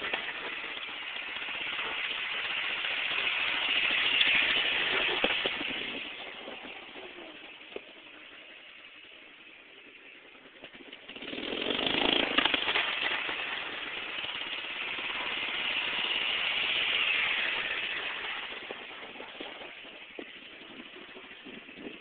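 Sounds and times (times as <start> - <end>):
lawnmower engine running hard: 0.0 - 8.0, 10.8 - 22.0.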